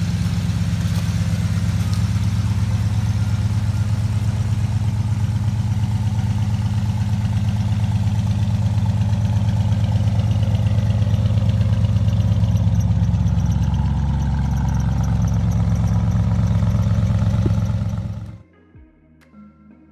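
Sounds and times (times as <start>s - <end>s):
truck engine idling: 0.0s - 18.4s.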